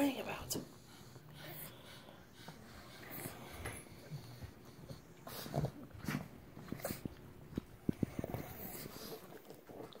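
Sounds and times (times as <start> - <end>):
dogs huffing: 0.4 - 10.0.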